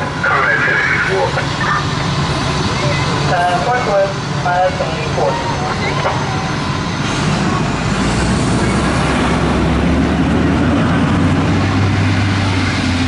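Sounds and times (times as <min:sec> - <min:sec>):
fire truck diesel engine running: 0:00.0 - 0:13.0.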